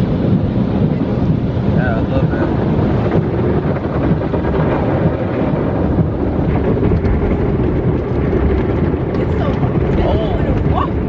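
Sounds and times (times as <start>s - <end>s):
car wash rushing noise: 0.0s - 11.0s.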